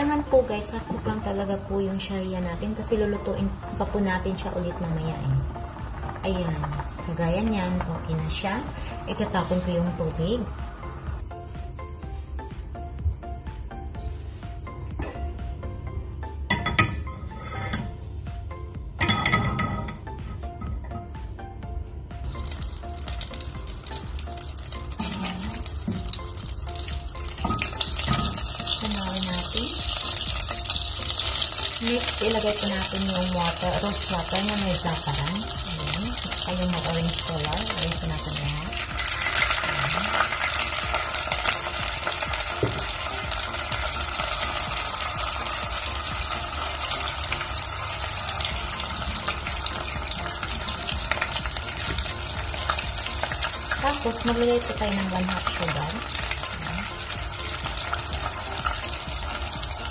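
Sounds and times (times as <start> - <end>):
butter sizzling in pot: 0.0 - 11.3, 22.2 - 59.9
soft background music: 0.0 - 59.9.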